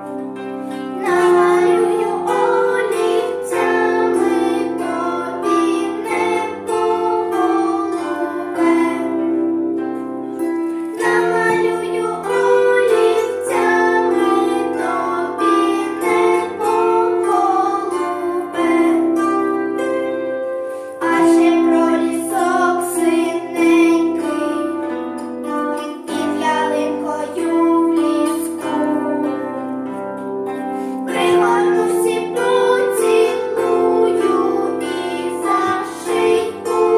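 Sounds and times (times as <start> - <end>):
instrumental accompaniment: 0.0 - 36.9
girls singing: 0.9 - 9.8, 10.9 - 20.2, 20.9 - 24.9, 25.6 - 29.4, 31.0 - 36.9.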